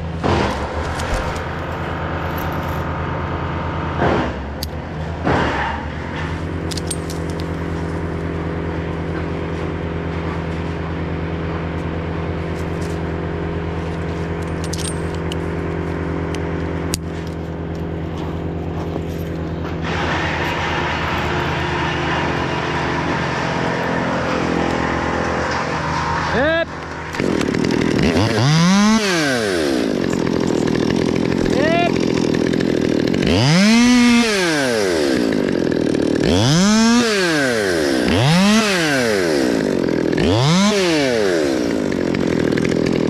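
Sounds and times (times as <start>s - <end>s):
engine drone: 0.0s - 43.0s.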